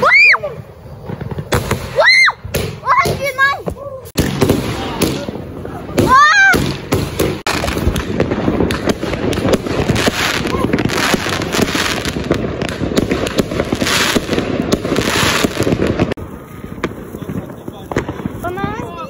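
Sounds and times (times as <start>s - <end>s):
fireworks crackling: 0.0s - 19.0s
fireworks hissing: 0.0s - 19.0s.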